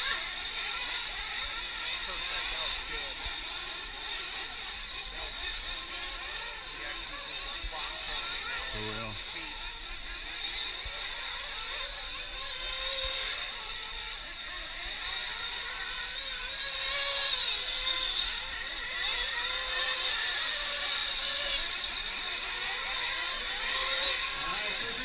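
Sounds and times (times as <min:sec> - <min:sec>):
rc truck engines screaming: 0:00.0 - 0:25.0.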